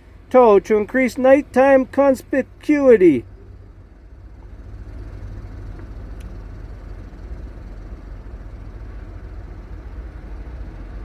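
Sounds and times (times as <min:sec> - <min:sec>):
semi truck engine rumble: 0:00.0 - 0:11.0.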